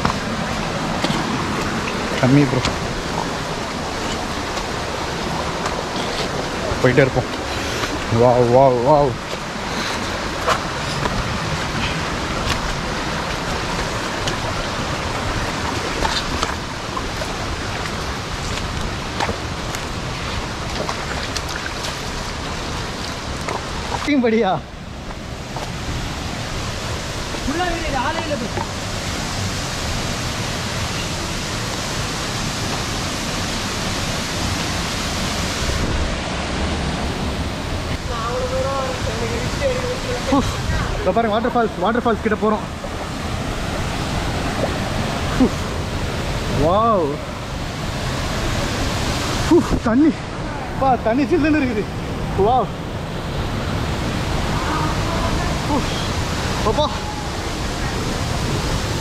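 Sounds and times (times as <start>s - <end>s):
stream flowing over boulders: 0.0s - 59.0s
waterfall rushing into pool: 0.0s - 59.0s.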